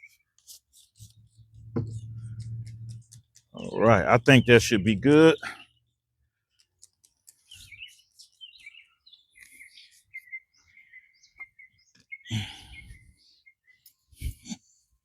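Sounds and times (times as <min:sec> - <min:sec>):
birds chirping and singing: 0:00.0 - 0:14.8.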